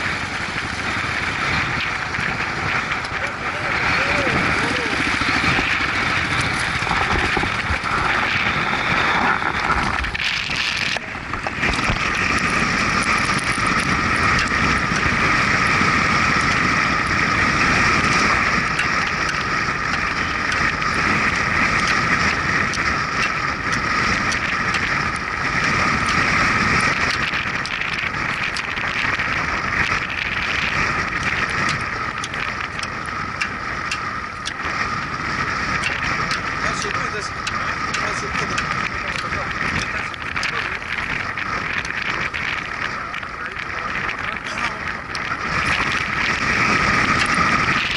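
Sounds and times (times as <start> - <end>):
motorcycle engine: 0.0 - 47.9
wind on microphone: 0.0 - 47.9.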